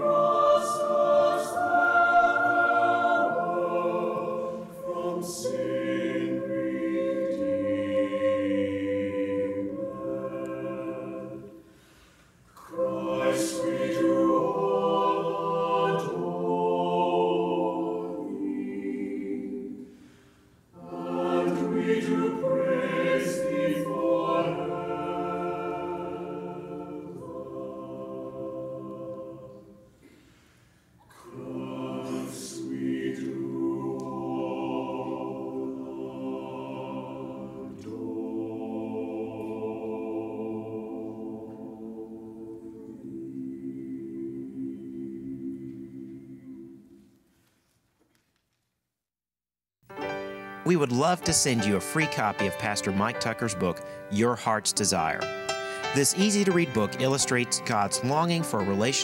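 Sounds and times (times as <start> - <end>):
mixed choir singing in harmony: 0.0 - 30.3, 31.0 - 47.2, 51.0 - 59.0.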